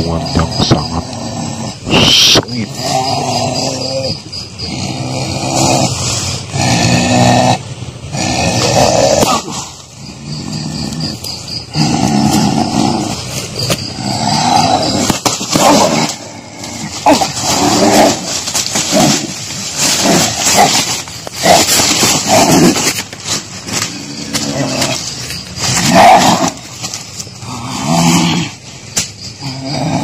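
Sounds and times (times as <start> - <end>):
man growling and roaring: 0.0 - 22.9, 27.4 - 28.7.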